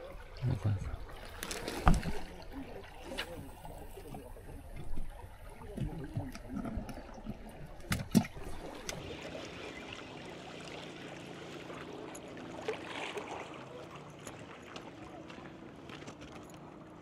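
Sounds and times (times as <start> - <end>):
sea water lapping against rocks: 0.0 - 17.0.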